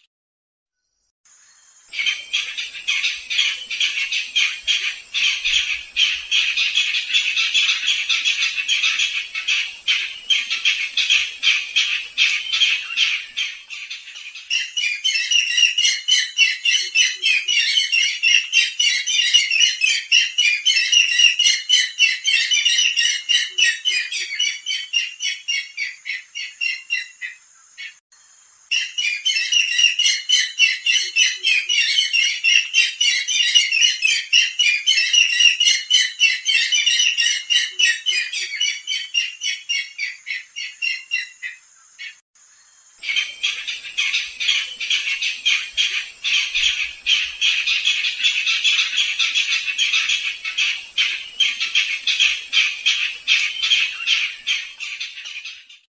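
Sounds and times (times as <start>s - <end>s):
bird harsh squawking calls: 2.0s - 28.0s, 28.7s - 42.2s, 43.0s - 55.9s.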